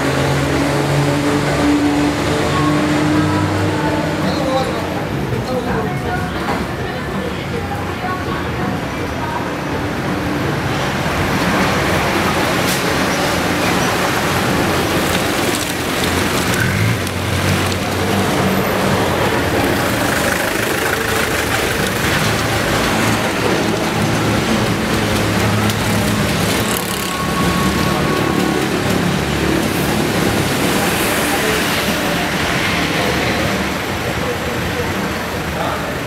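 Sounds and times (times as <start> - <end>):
vehicle engines rumbling: 0.0 - 36.0.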